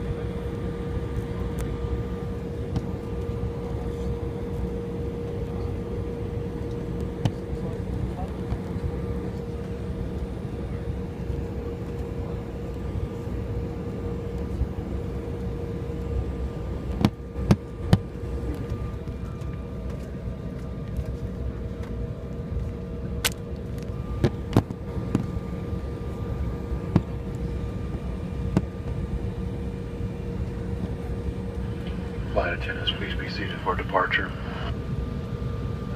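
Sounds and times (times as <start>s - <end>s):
airliner cabin hum: 0.0s - 35.9s.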